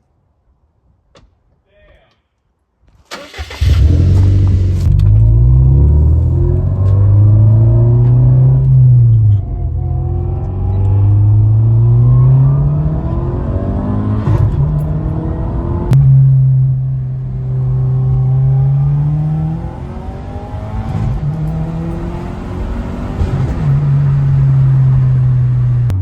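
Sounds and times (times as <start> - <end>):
car engine revving and accelerating: 3.4 - 26.0.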